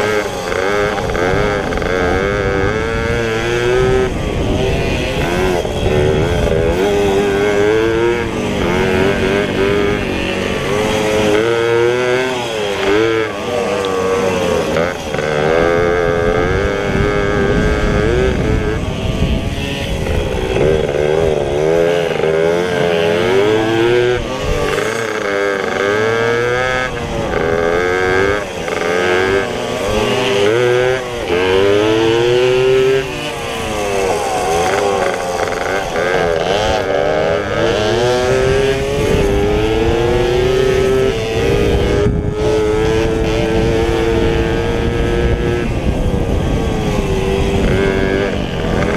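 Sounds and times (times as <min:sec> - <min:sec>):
pit bike engines revving: 0:00.0 - 0:48.9.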